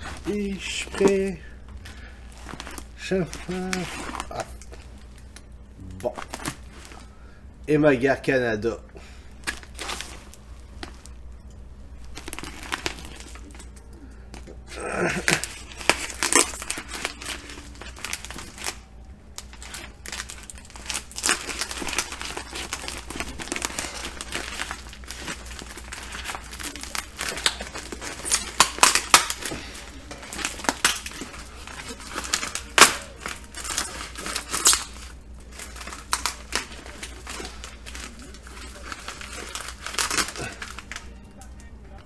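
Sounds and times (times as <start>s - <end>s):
packaging crinkling and tearing: 0.0s - 42.0s
packaging rustling: 0.0s - 42.0s.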